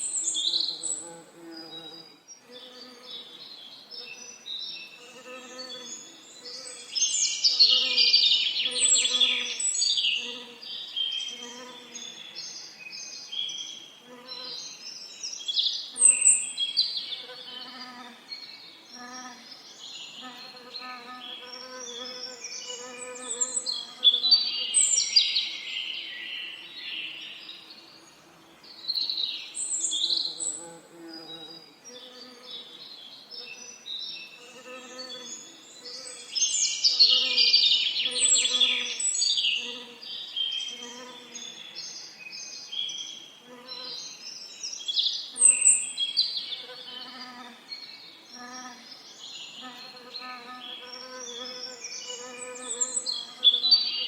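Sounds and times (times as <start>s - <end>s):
birds singing and chirping: 0.0s - 54.0s.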